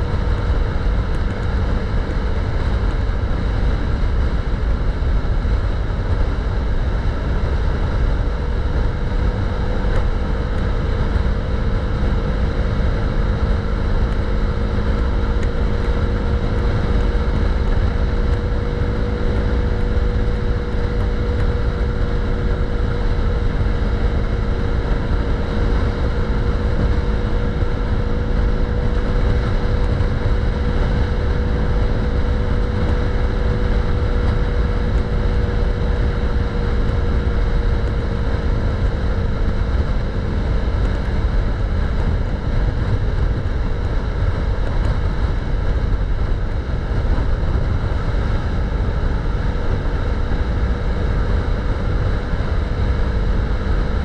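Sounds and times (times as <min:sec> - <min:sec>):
single-cylinder motorcycle engine: 0:00.0 - 0:54.0
wind rumble on microphone: 0:00.0 - 0:54.0.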